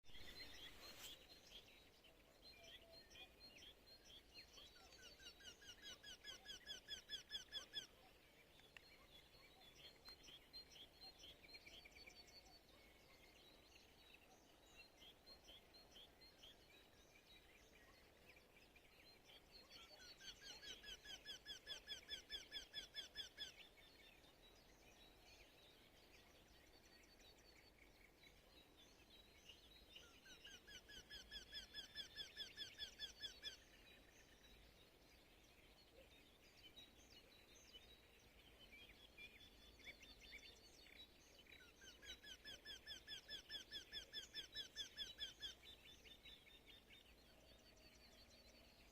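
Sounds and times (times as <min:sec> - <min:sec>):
bird chirps: 0:00.1 - 0:48.9.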